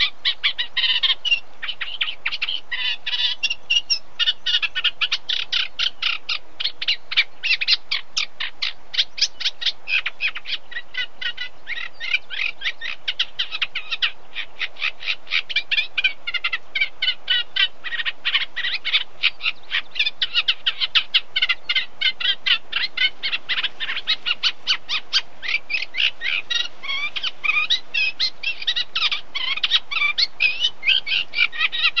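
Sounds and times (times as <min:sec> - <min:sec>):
warbler singing: 0:00.0 - 0:32.0.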